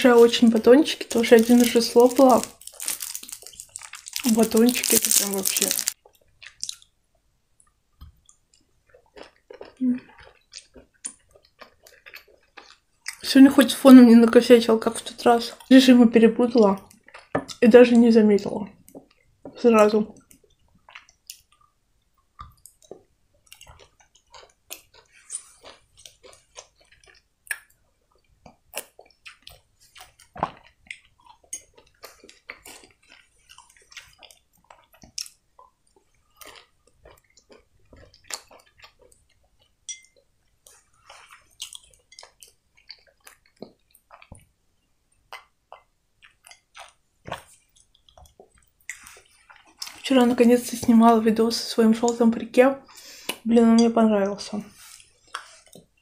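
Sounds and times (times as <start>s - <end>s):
mouth chewing sweets: 0.0s - 56.0s.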